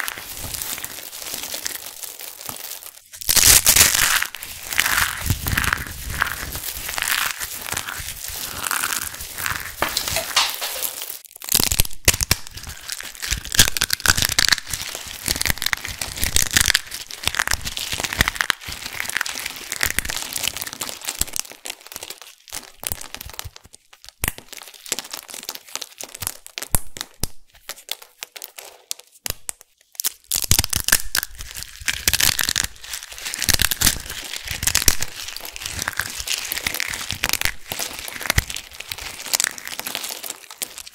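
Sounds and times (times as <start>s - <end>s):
hands crunching dry flakes: 0.0s - 40.9s.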